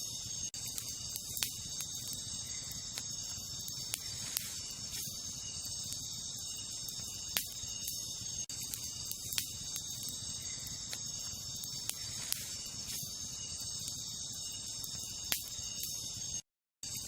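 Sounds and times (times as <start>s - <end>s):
night insects chorus: 0.0s - 17.0s
campfire crackling and popping: 0.1s - 17.0s.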